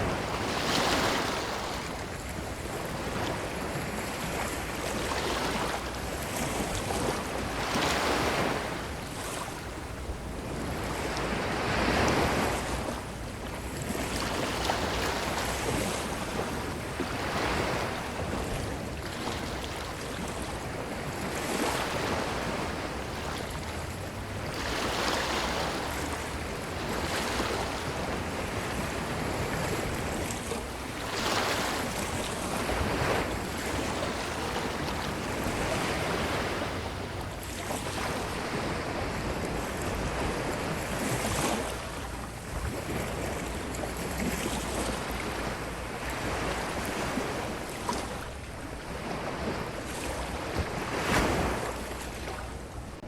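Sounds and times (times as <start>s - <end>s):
low rumble of wind: 0.0s - 53.0s
ocean waves washing on shore: 0.0s - 53.0s.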